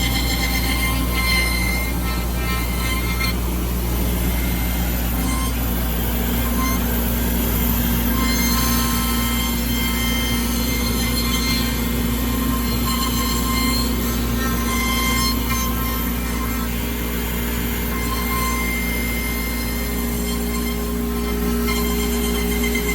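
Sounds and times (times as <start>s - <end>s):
cnc machine whine and hum: 0.0s - 22.9s
high machine tones: 0.0s - 22.9s
lower machine tone: 0.0s - 22.9s.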